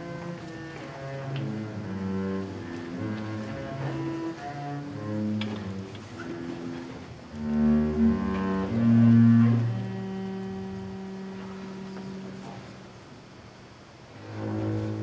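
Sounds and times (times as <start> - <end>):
bowed double bass: 0.0 - 15.0.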